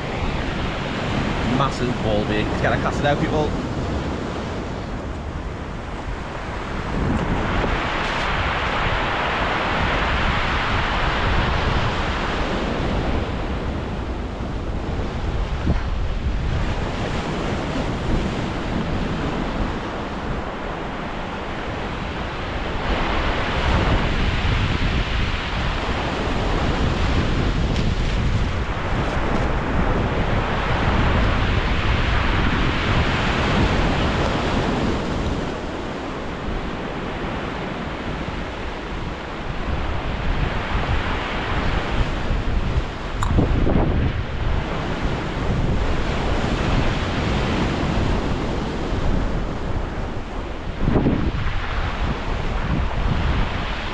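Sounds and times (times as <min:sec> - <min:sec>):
sea waves breaking on shore: 0:00.0 - 0:53.9
wind buffeting microphone: 0:00.0 - 0:53.9.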